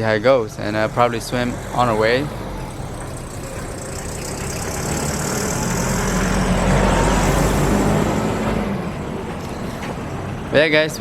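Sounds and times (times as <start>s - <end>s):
vehicle engine and tyres passing: 0.0s - 11.0s.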